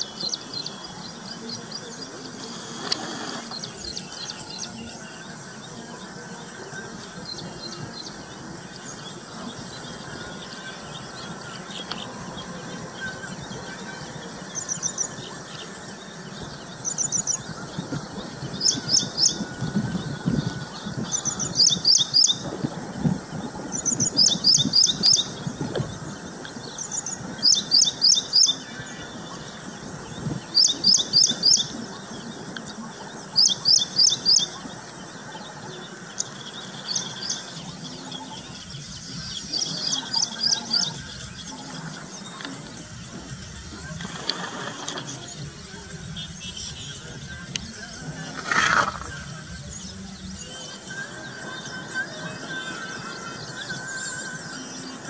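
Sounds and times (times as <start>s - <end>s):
low outdoor background: 0.0s - 55.0s
small songbird chirping: 0.0s - 55.0s.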